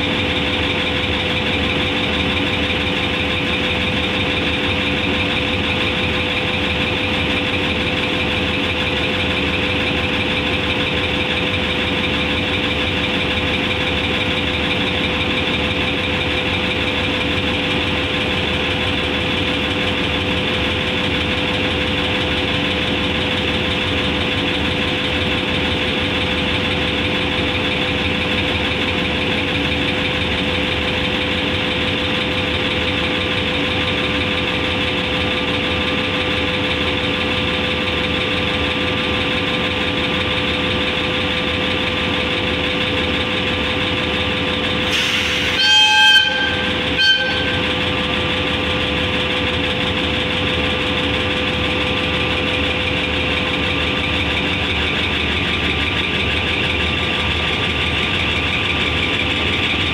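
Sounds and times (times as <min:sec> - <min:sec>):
diesel locomotive engine idling: 0:00.0 - 0:59.9.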